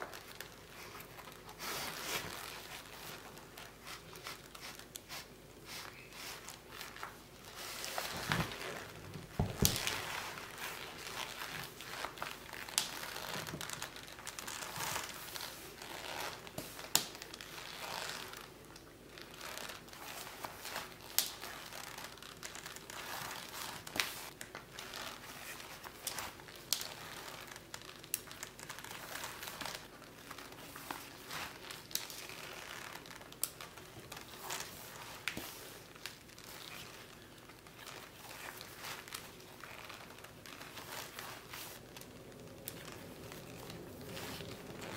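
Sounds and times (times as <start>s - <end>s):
laces pulled through eyelets: 0.0s - 44.9s
leather rustling and rubbing: 0.1s - 18.4s, 19.3s - 33.2s, 33.8s - 44.9s.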